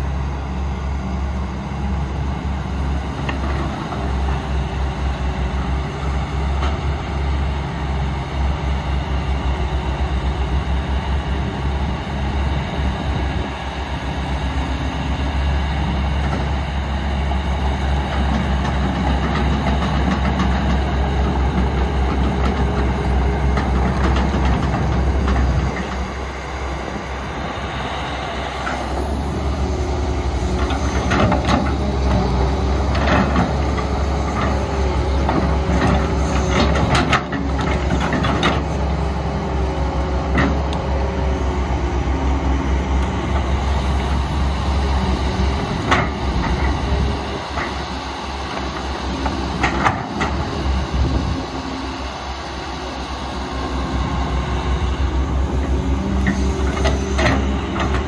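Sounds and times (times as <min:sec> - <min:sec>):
diesel machinery rumbling: 0:00.0 - 0:58.0.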